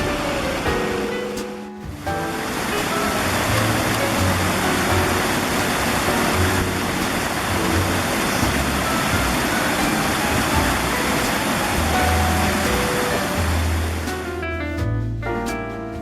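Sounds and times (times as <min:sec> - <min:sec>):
waterfall rushing: 0:00.0 - 0:01.2, 0:02.2 - 0:14.2
soft music: 0:00.0 - 0:16.0.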